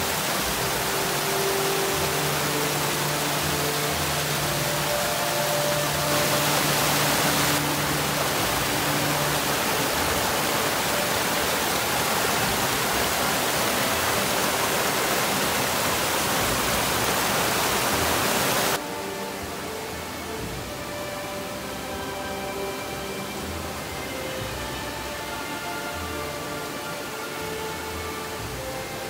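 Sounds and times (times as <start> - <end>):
stream rushing over boulders: 0.0 - 29.0.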